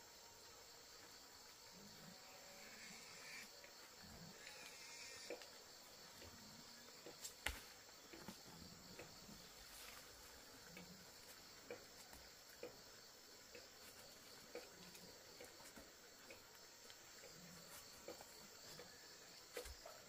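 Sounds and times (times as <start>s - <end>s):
insect chorus chirring: 0.0s - 20.0s.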